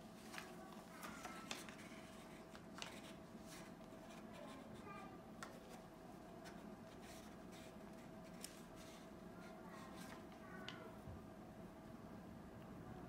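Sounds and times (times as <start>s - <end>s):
cat scratching paper mask: 0.2s - 10.9s.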